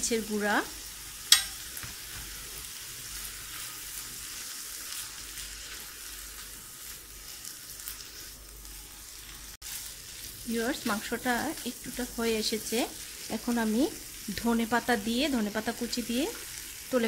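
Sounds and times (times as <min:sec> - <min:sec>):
food sizzling in frying pan: 0:00.0 - 0:17.0.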